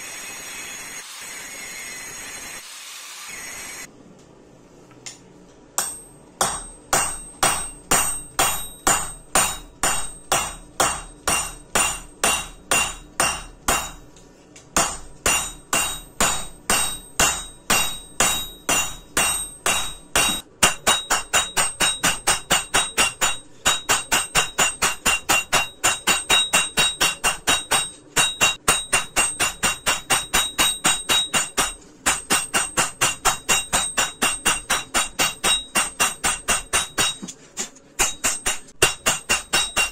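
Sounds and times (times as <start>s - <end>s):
hammer striking metal on anvil: 5.8s - 14.2s, 14.8s - 37.4s, 38.0s - 39.9s.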